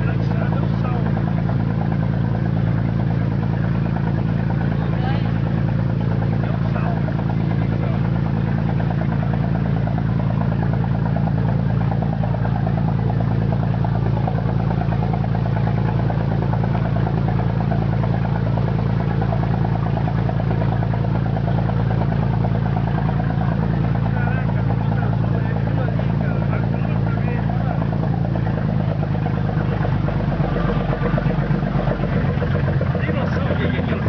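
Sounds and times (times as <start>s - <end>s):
boat engine droning: 0.0s - 34.0s.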